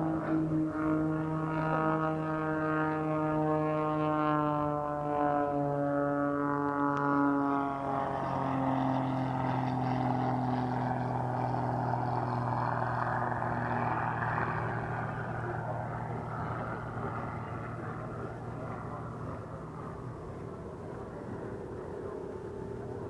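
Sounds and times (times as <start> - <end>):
propeller plane engine buzzing: 0.0 - 23.0.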